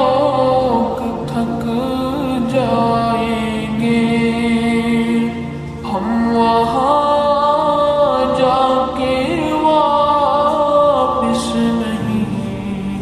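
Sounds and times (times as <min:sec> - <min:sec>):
solo voice singing: 0:00.0 - 0:13.0
steady held drone: 0:00.0 - 0:13.0.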